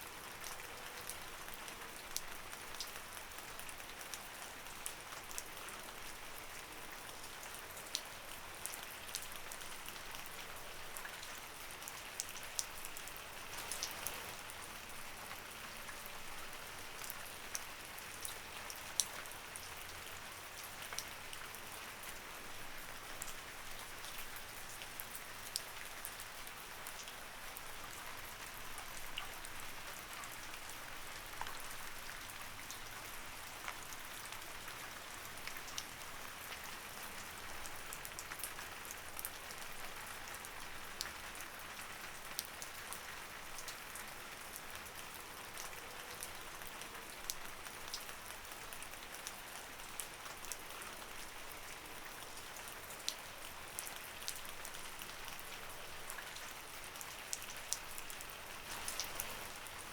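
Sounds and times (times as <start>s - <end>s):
light rain falling: 0.0s - 59.9s.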